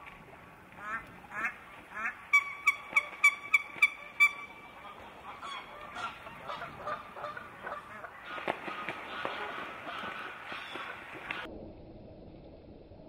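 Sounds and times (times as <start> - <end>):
splashing and wing-beating on water: 0.0 - 11.5
geese honking: 0.8 - 11.5.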